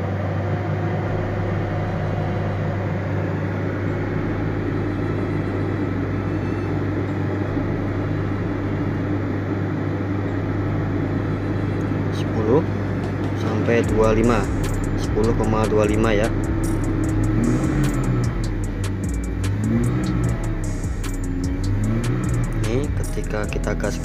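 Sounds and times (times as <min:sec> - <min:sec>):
car engine running at high idle: 0:00.0 - 0:24.0.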